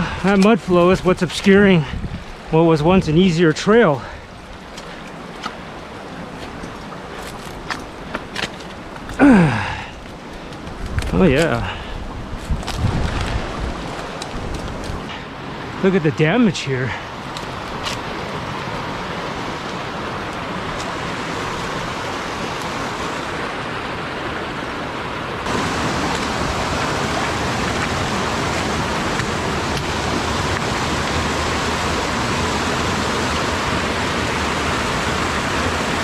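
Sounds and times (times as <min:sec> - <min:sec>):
creek water rushing over rocks: 0:00.0 - 0:36.0.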